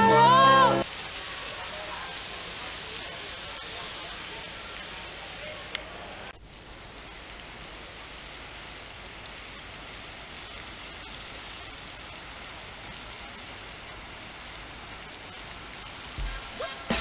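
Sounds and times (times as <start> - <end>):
fountain jets splashing into pool: 0.1 - 17.0.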